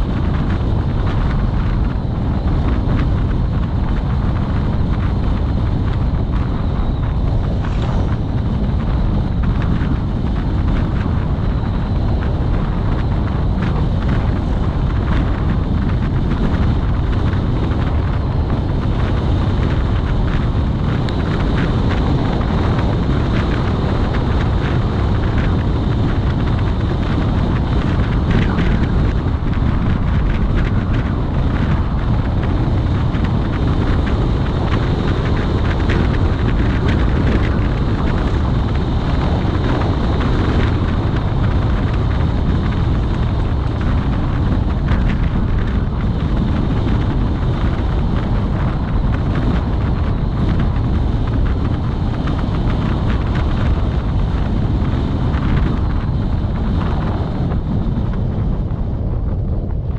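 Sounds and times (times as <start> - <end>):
vehicle road and engine noise: 0.0 - 59.9
wind buffeting microphone: 0.0 - 59.9.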